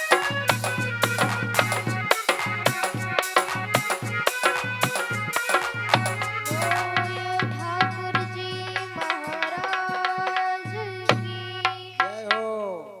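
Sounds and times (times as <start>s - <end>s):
tabla strokes: 0.0s - 12.5s.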